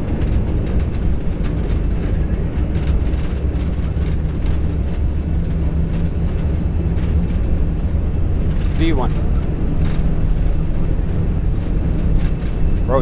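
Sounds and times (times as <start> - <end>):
jet engines low rumble: 0.0 - 13.0
wheels running on runway: 0.0 - 13.0.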